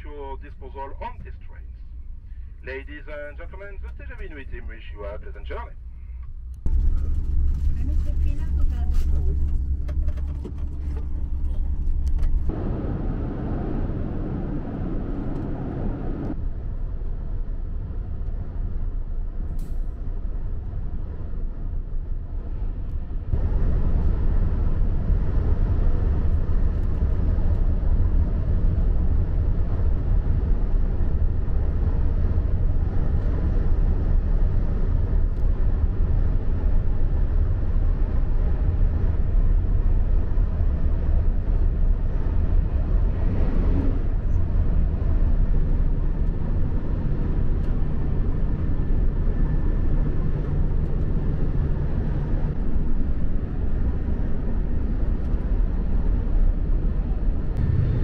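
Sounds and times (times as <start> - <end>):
train cabin rumble and hiss: 0.0 - 58.0.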